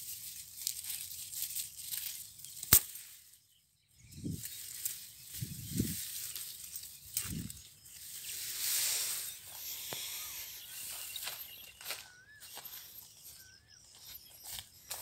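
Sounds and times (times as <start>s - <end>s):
footsteps through dry grass: 0.0s - 15.0s
faint chirps: 0.8s - 15.0s.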